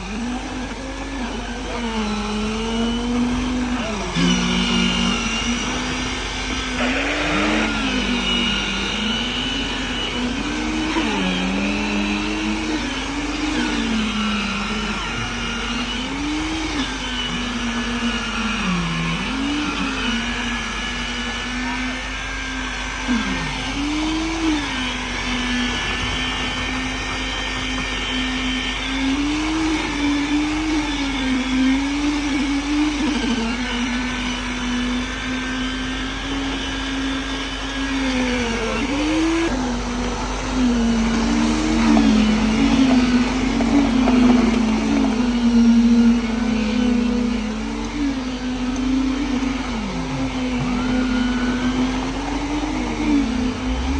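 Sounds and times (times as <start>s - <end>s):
machinery motor running: 0.0s - 53.9s.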